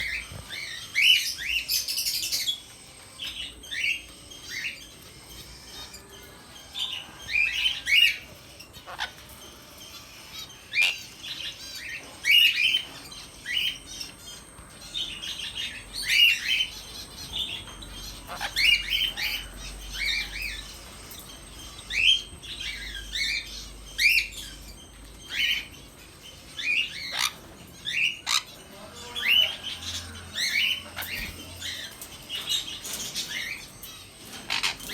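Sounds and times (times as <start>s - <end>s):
parrot chirping calls: 0.0s - 34.9s.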